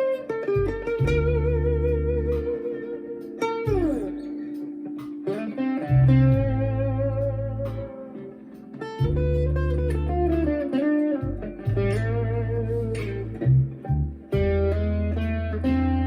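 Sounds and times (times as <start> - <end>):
overdriven guitar with vibrato: 0.0 - 16.0.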